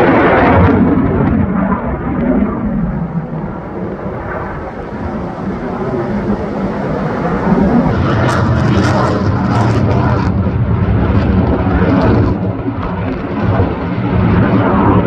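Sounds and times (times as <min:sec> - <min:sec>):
fighter jet rumble: 0:00.0 - 0:15.0.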